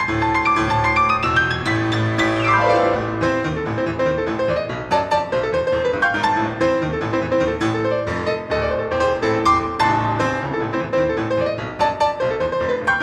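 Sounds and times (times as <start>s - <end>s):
fast grand piano playing: 0.0s - 13.0s.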